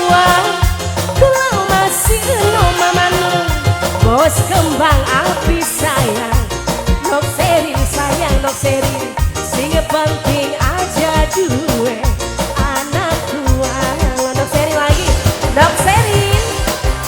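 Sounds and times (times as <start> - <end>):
drums and bass beat: 0.0 - 17.0.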